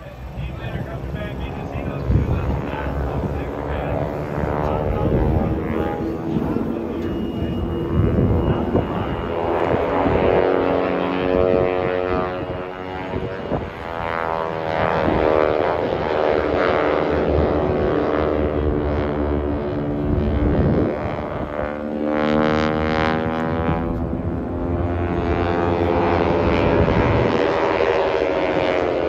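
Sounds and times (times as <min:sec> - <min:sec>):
airplane engines droning overhead: 0:00.0 - 0:29.0.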